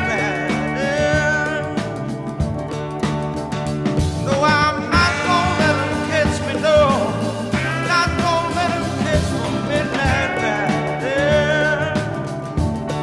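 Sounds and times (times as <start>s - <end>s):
rock and roll song: 0.0s - 13.0s.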